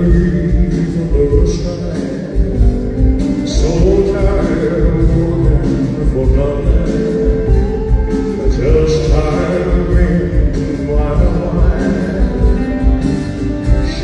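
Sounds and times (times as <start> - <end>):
live band music: 0.0 - 14.0
man singing: 0.0 - 14.0.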